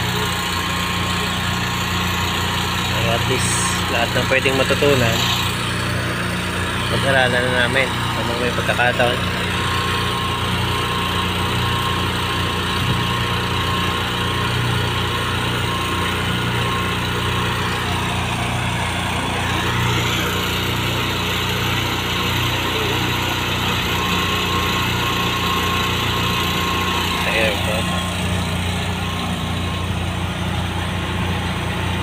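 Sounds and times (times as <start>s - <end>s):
small engine running steadily: 0.0s - 32.0s.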